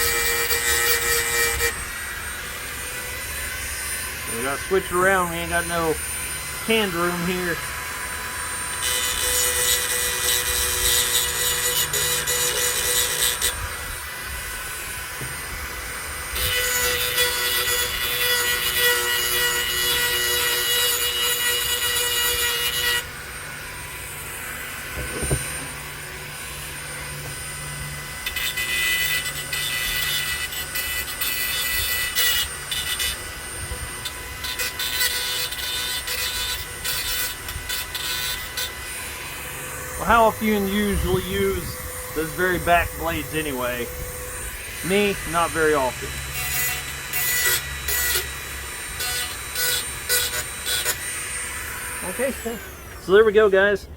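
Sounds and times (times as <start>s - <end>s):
file rasping on metal blade: 0.0s - 7.7s, 8.6s - 13.8s, 16.4s - 23.1s, 28.2s - 52.7s.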